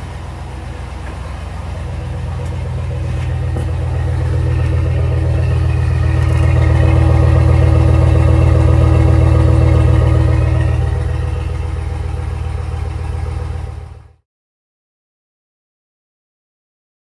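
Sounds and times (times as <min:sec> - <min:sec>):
engine exhaust idling: 0:00.0 - 0:14.2.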